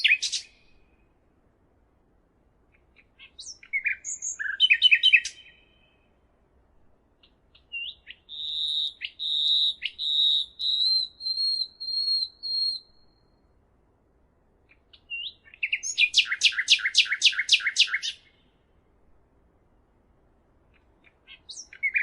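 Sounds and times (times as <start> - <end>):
songbird singing: 0.0 - 1.3, 2.6 - 6.4, 7.1 - 13.7, 14.6 - 19.0, 20.6 - 22.0.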